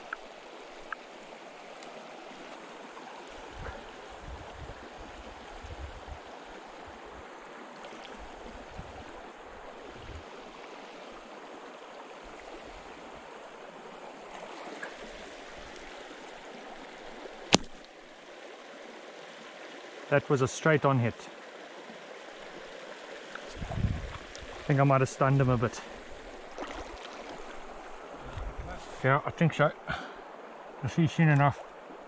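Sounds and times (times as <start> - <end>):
stream water flowing: 0.0 - 32.0.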